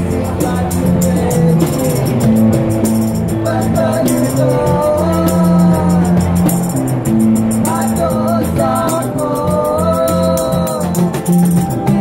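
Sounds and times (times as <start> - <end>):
sustained chords: 0.0 - 11.9
person singing melody: 0.0 - 12.0
tambourine shaken: 0.0 - 12.0.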